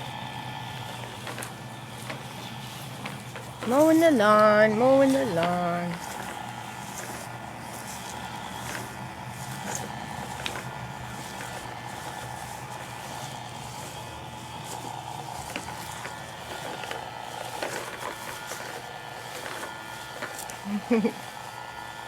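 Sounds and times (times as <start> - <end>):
toy lawnmower humming: 0.0 - 22.0.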